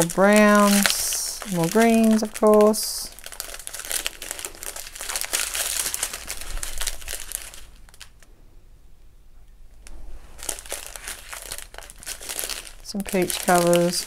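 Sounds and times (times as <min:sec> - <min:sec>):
plastic bags crinkling: 0:00.0 - 0:08.3, 0:09.8 - 0:14.0.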